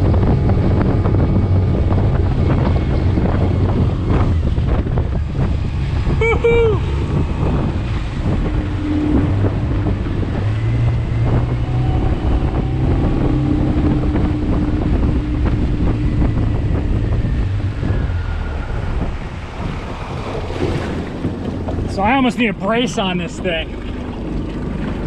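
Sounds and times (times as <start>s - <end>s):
outboard motor running: 0.0s - 25.0s
wind buffeting the microphone: 0.0s - 25.0s.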